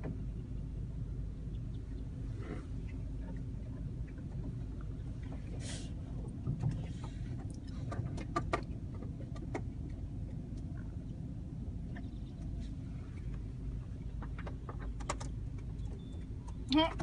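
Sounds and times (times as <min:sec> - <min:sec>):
car cabin hum: 0:00.0 - 0:17.0.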